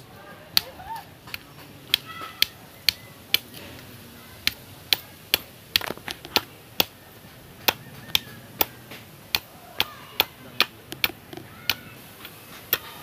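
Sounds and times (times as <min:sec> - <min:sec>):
knife chopping bamboo: 0:00.0 - 0:13.0.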